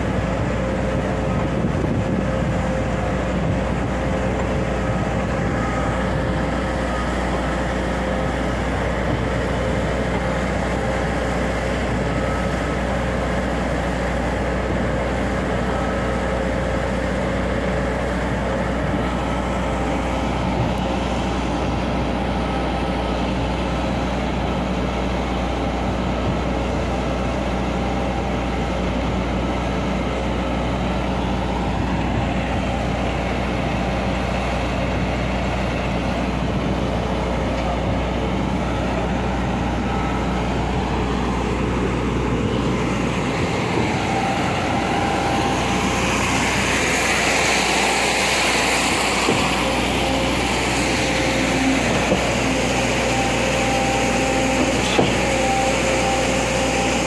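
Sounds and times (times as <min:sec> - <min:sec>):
heavy diesel machinery drone: 0:00.0 - 0:57.0.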